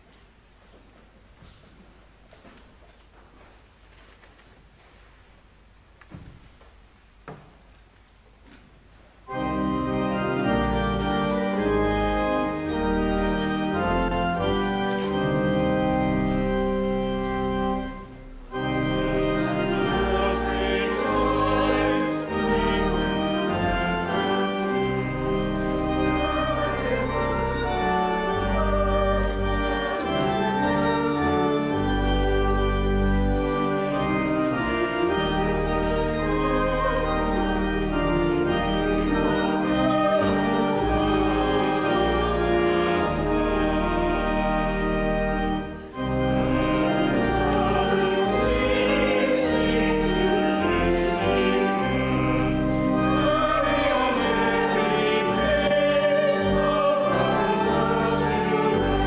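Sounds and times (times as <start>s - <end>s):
church organ playing hymn chords: 9.2s - 59.0s.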